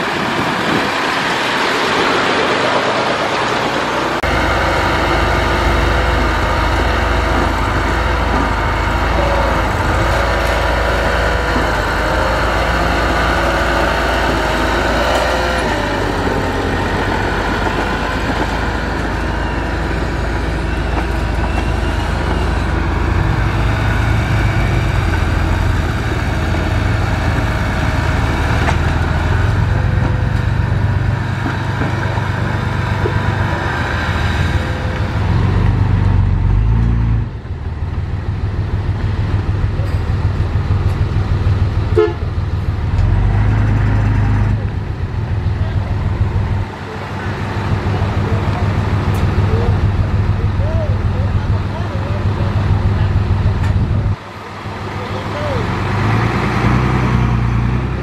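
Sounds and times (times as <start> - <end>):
bulldozer diesel engine: 0.0 - 58.0
dump truck diesel engine: 0.0 - 58.0.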